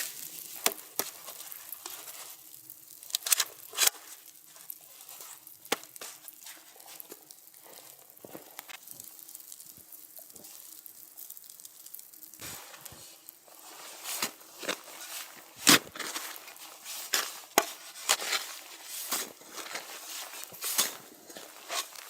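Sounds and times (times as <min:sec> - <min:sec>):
small crackles and clicks: 0:00.0 - 0:22.0.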